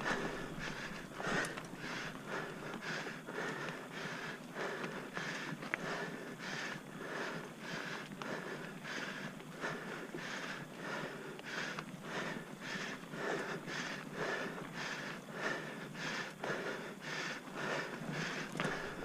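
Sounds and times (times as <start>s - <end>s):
heavy rapid panting: 0.0s - 19.0s.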